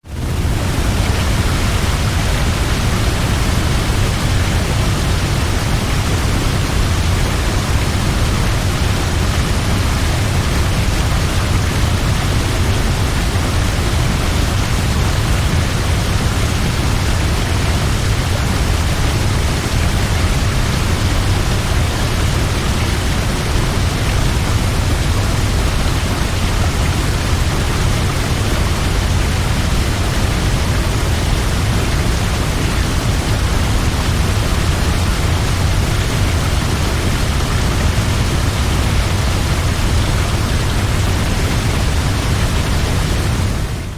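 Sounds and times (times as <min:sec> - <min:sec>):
waterfall roaring: 0:00.1 - 0:43.9.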